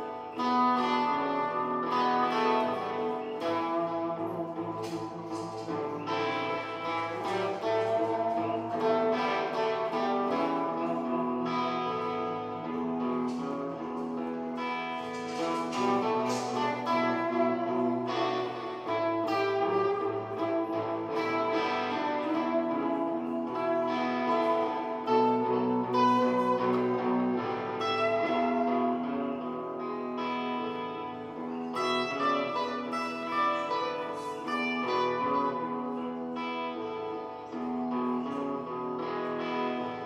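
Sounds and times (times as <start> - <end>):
electric guitar picked notes: 0.0 - 40.0
held bass and chord backing: 0.0 - 40.0.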